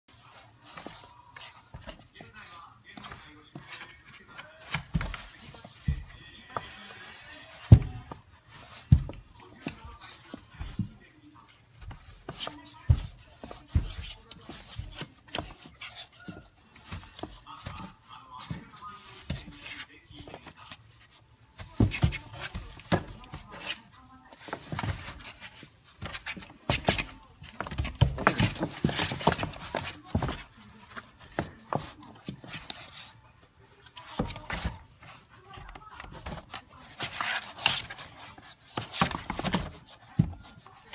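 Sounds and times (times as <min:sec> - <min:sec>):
puppy scrabbling in cardboard box: 0:00.2 - 0:07.0, 0:11.7 - 0:33.2, 0:33.8 - 0:40.9.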